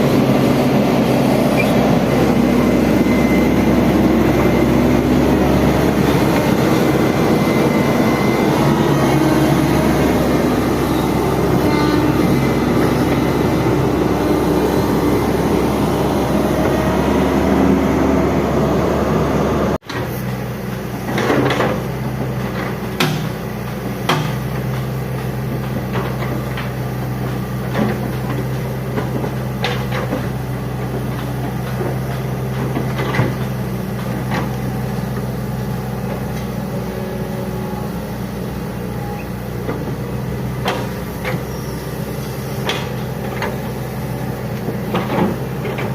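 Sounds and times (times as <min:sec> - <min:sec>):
excavator diesel engine humming: 0:00.0 - 0:45.9.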